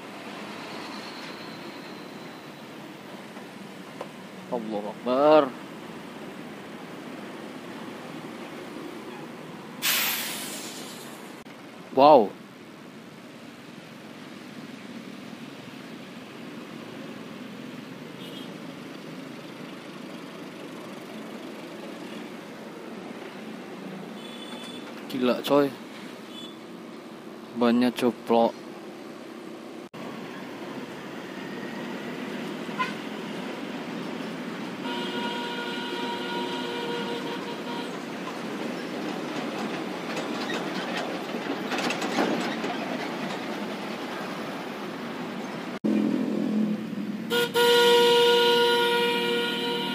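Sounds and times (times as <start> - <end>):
traffic rush of wind and engines: 0.0 - 49.9.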